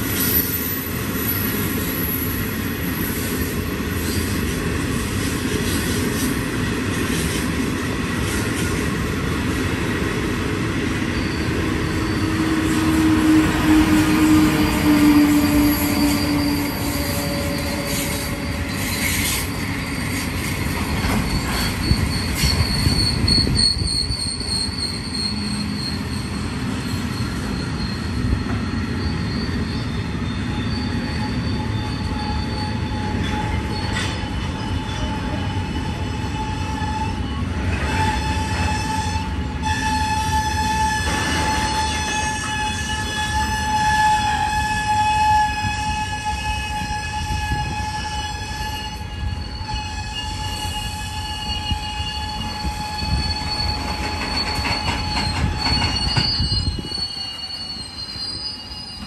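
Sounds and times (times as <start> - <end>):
train wheels squealing: 0.0 - 59.0.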